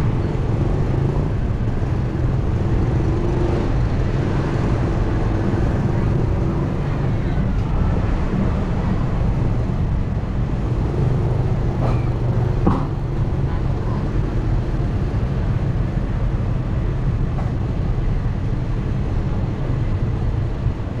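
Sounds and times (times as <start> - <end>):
vehicle road and engine noise: 0.0 - 21.0
wind rumble: 0.0 - 21.0.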